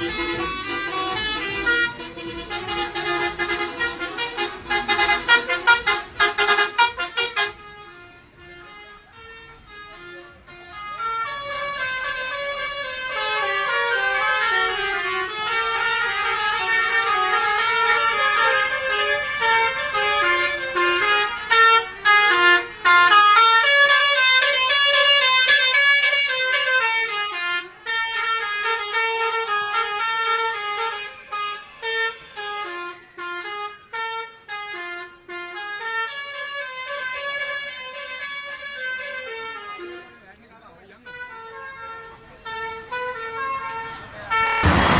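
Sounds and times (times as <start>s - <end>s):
musical bus horn playing tune: 0.0s - 40.2s, 41.1s - 44.9s.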